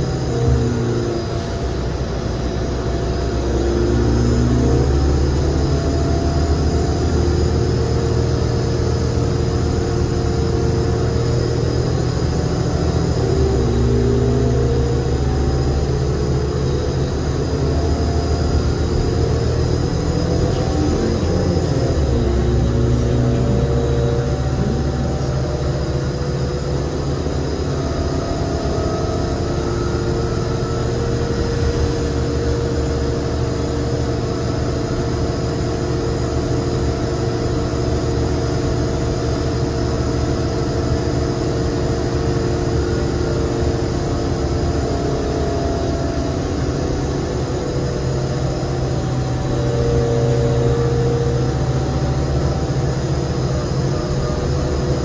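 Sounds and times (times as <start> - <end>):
bus engine drone: 0.0 - 55.0
transmission whine: 0.0 - 55.0.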